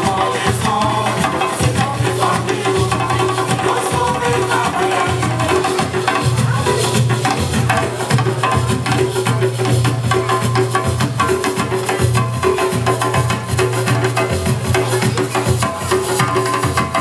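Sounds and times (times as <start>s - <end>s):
hand percussion: 0.0s - 17.0s.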